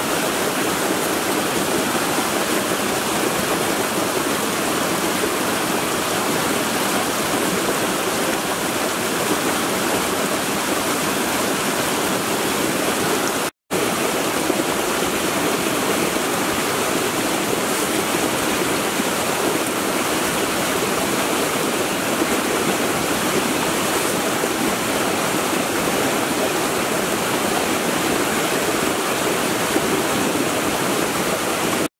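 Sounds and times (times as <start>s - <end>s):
creek water rushing over rocks: 0.0s - 31.9s.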